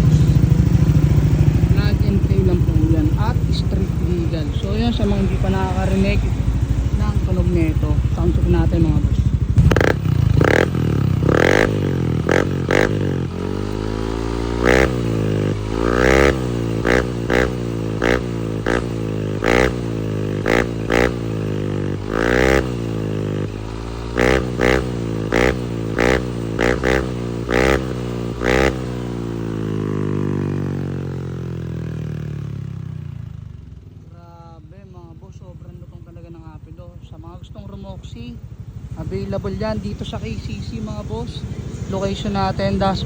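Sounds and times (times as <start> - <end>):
scooter engine revving: 0.0 - 35.2, 35.8 - 43.0.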